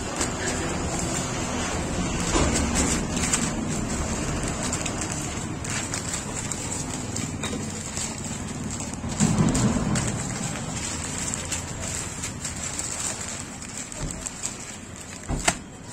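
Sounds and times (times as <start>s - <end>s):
paper rustling and crinkling: 0.0s - 15.9s.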